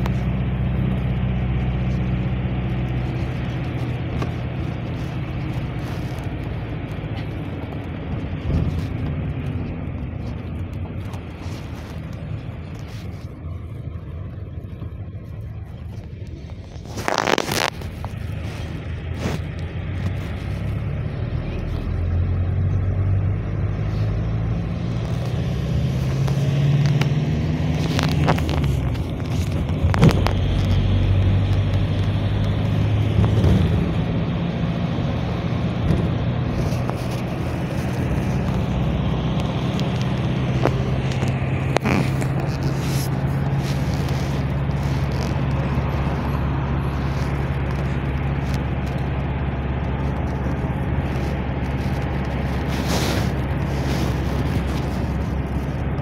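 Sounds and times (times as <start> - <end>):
low engine drone: 0.0 - 56.0
tyre and road noise: 0.0 - 56.0.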